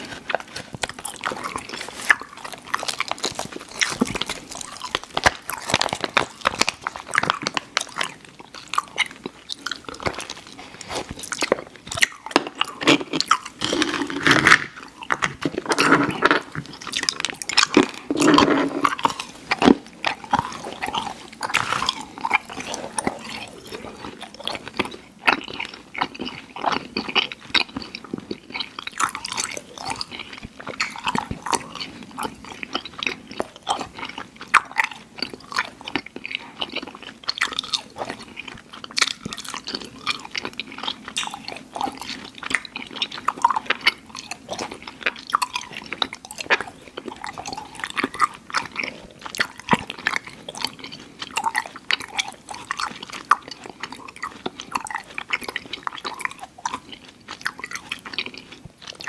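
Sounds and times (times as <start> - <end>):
chewing mouth sounds: 0.0 - 59.0.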